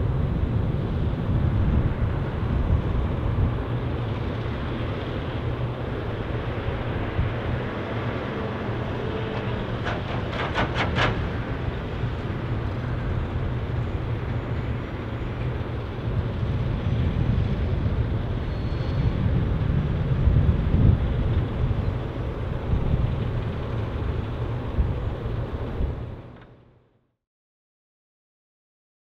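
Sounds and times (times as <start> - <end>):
diesel truck engine running: 0.2 - 26.4.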